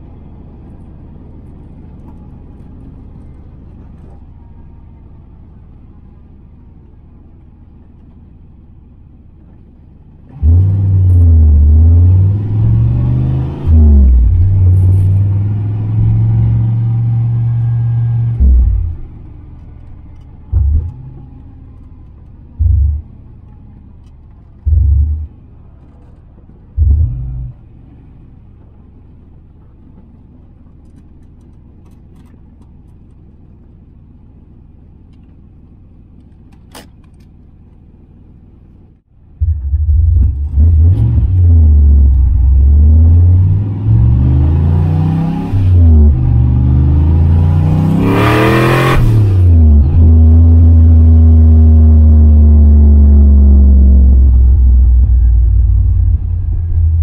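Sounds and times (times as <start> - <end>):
car engine at full throttle: 0.0 - 57.0
engine throttle blips: 0.0 - 57.0.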